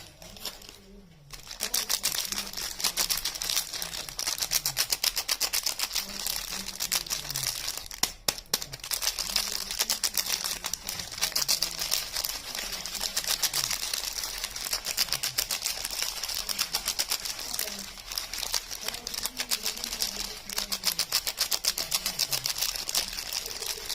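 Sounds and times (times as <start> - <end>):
soap wrapping crinkling: 0.0 - 23.9.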